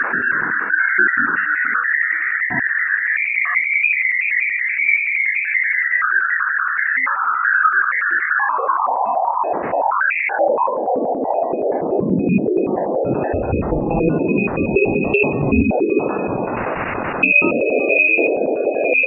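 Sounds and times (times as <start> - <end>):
eerie warbling whistles and beeps: 0.0 - 19.0.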